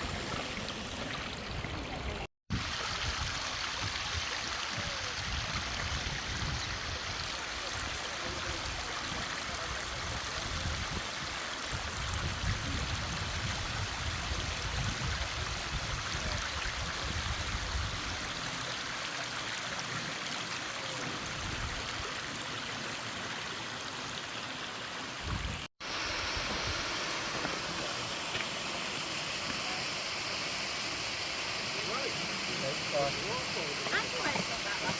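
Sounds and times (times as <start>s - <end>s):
stream and waterfalls rushing: 0.0s - 34.9s.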